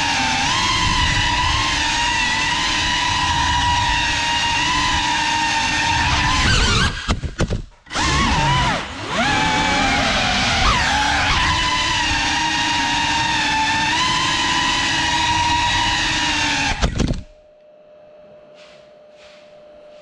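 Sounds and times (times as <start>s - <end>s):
drone motors and propellers whining: 0.0s - 7.1s, 7.9s - 17.3s.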